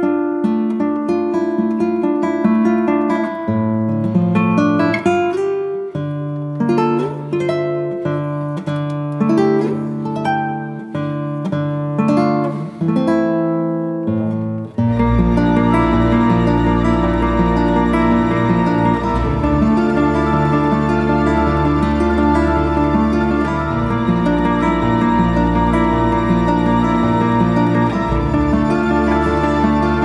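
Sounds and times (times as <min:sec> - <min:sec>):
acoustic guitar picking: 0:00.0 - 0:30.0.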